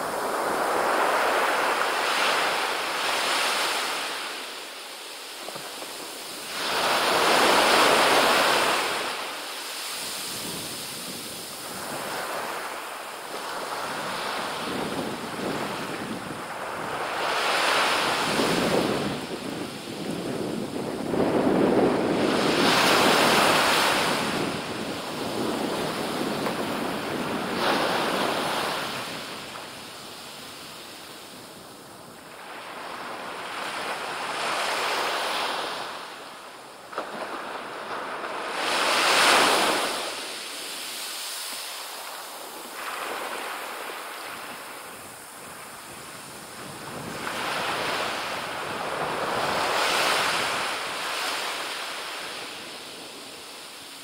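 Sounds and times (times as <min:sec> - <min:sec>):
small surf hissing on a beach: 0:00.0 - 0:54.0.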